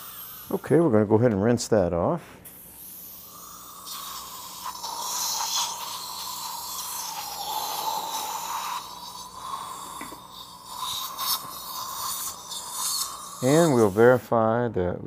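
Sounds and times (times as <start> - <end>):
dental syringe hiss: 0.0 - 0.7, 2.4 - 14.2
suction whine: 0.0 - 1.0, 2.5 - 14.2.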